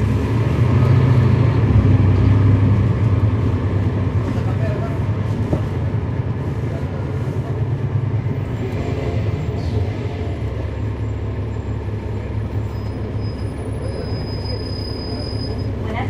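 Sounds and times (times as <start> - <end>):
bus diesel engine droning: 0.0 - 16.0.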